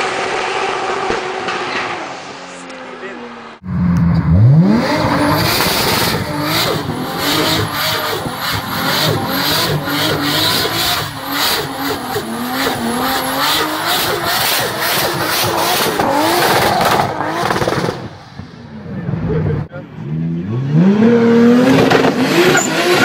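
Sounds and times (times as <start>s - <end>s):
car engine revving high: 0.0s - 18.9s, 19.5s - 23.0s.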